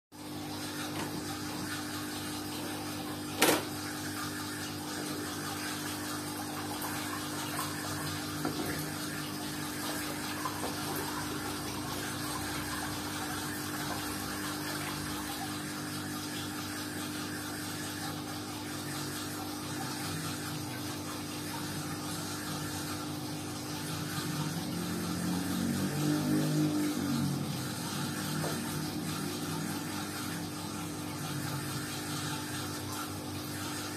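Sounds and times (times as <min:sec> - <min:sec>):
aquarium pump humming: 0:00.1 - 0:33.9.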